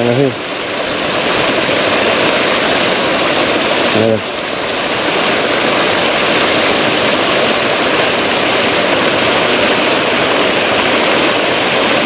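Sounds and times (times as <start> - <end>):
paddlewheel aerator churning water: 0.0 - 12.0.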